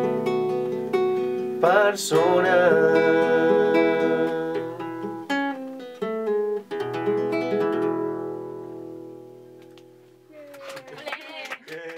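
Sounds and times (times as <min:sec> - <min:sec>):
acoustic guitar strumming chords: 0:00.0 - 0:10.2.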